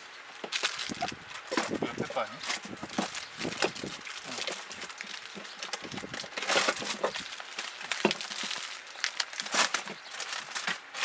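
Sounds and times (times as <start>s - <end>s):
crinkly packaging rustling: 0.3s - 11.0s.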